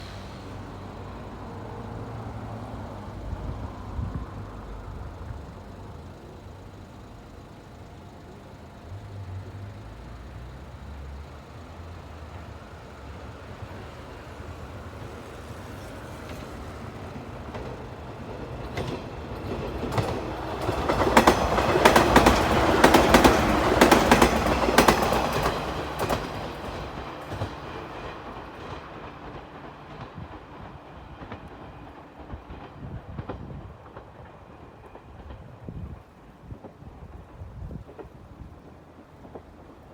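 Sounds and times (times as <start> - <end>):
electric train hum: 0.0 - 39.9
train wheels clacking over rail joints: 0.0 - 39.9.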